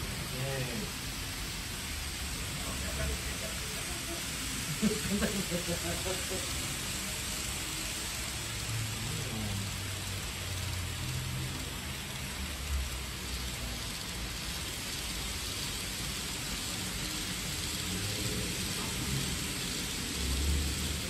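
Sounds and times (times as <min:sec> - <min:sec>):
model trains rolling hiss: 0:00.0 - 0:21.0.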